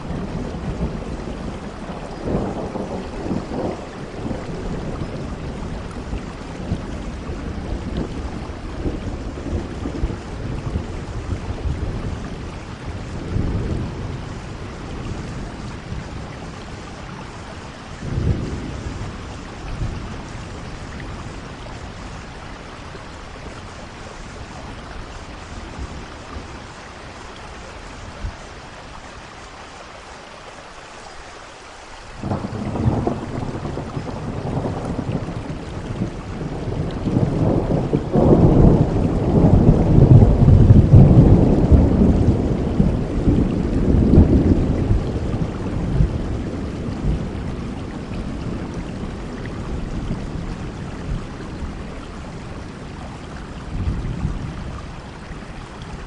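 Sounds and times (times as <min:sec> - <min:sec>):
rolling thunder: 0:00.0 - 0:27.3, 0:32.2 - 0:56.0
steady rainfall: 0:00.0 - 0:56.0.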